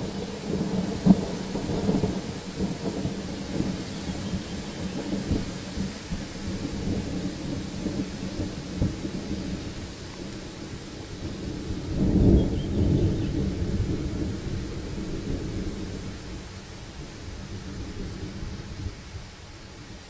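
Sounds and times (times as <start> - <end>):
thunder rumble: 0.0 - 20.0
wind: 0.0 - 20.0.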